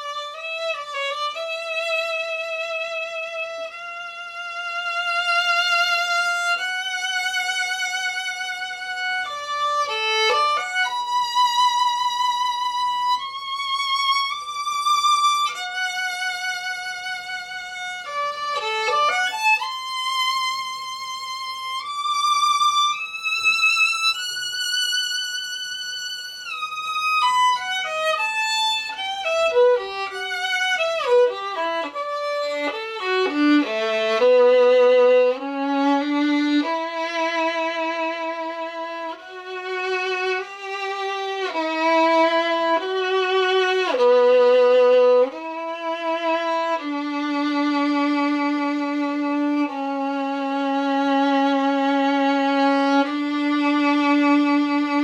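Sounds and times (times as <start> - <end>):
solo violin: 0.0 - 55.0.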